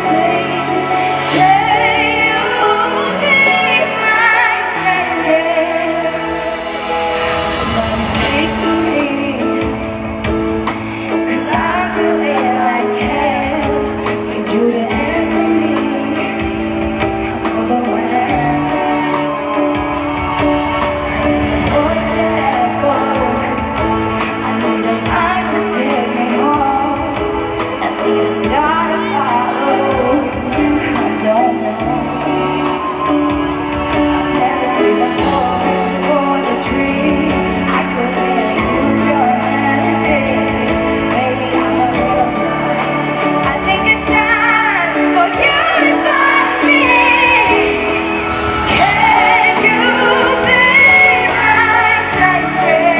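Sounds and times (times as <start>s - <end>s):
live band playing: 0.0s - 52.9s
woman singing a pop ballad: 0.0s - 52.9s.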